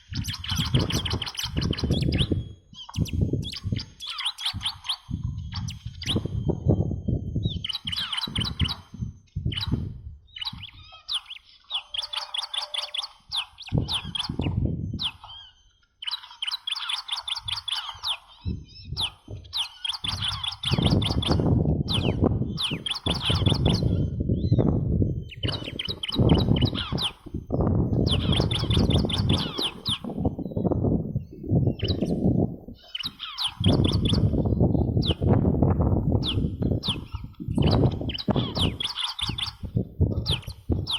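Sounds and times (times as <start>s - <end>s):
bird rapid high chirping: 0.0s - 35.4s, 36.1s - 40.9s.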